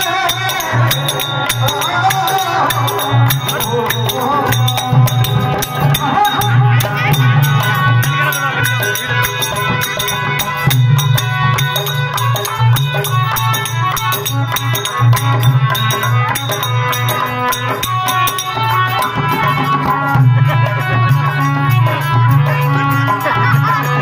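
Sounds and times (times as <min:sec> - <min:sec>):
hand drum beat: 0:00.0 - 0:24.0.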